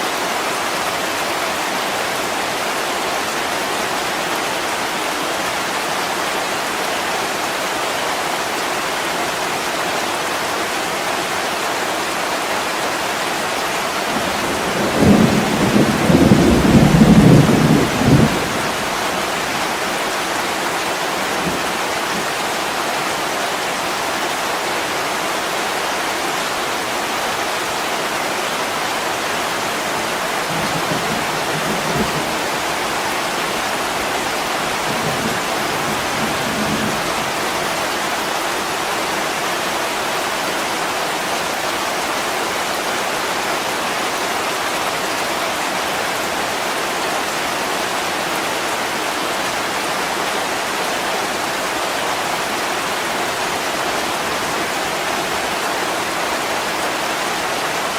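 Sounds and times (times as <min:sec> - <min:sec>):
heavy rain on a window: 0:00.0 - 0:57.9.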